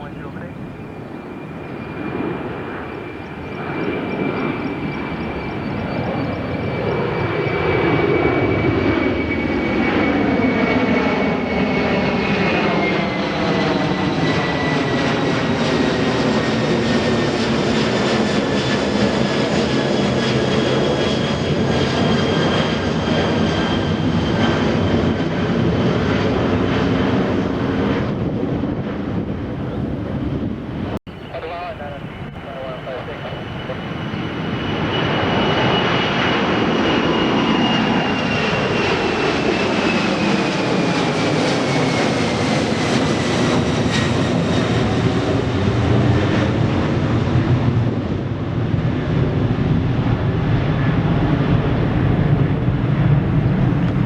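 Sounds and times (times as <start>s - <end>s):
high engine whine: 0.0s - 12.1s, 18.4s - 54.0s
jet engines roaring: 0.0s - 54.0s.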